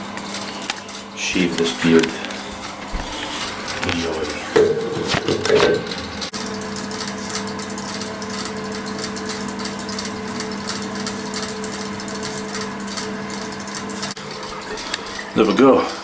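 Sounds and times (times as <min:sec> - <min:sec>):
electric beard trimmer buzzing: 0:01.4 - 0:14.2.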